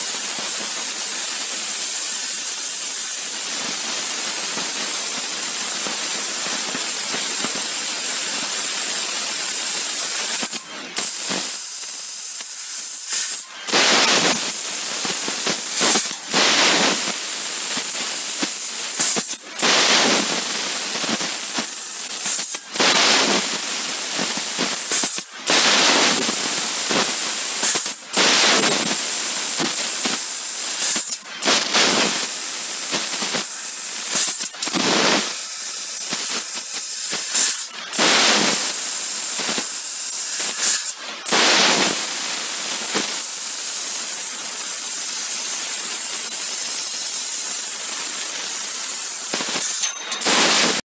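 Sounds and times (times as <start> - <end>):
laser cutter high hiss: 0.0 - 50.8.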